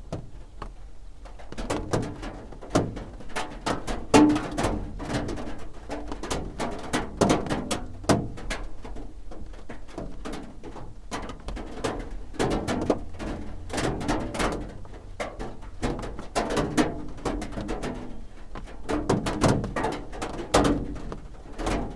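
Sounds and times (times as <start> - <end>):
raindrops drumming on a roof: 0.1 - 21.9.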